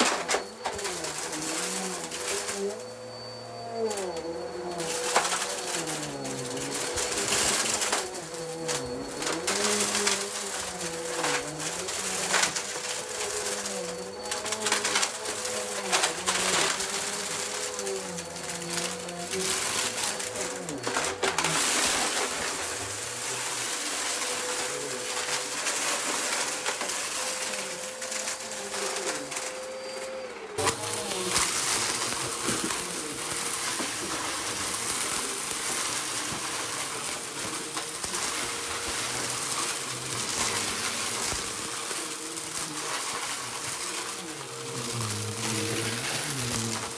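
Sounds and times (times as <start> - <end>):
debris crackling in vacuum: 0.0 - 46.9
vacuum cleaner running: 0.0 - 46.9.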